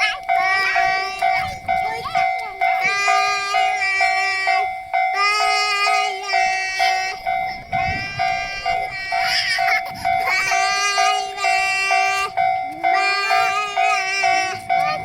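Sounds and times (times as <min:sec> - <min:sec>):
level-crossing warning bell: 0:00.0 - 0:15.0
long held tones: 0:00.0 - 0:15.0.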